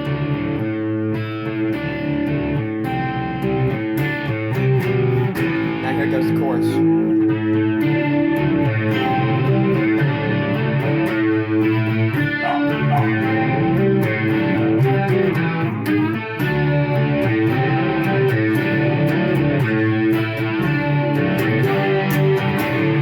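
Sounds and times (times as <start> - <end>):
electric guitar with chorus effect: 0.0 - 23.0.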